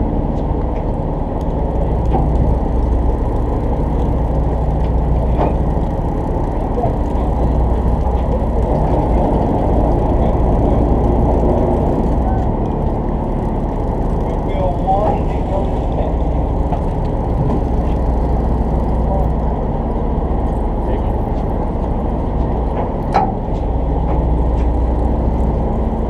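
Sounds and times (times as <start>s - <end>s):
boat engine droning: 0.0s - 26.0s
water against hull: 0.0s - 26.0s.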